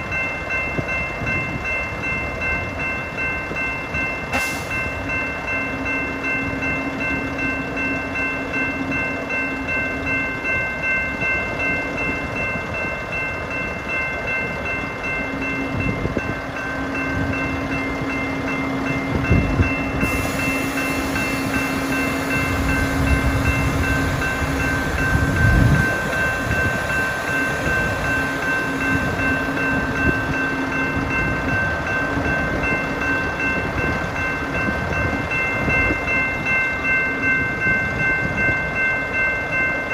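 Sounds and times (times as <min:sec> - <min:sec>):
crossing bell ringing: 0:00.0 - 0:39.9.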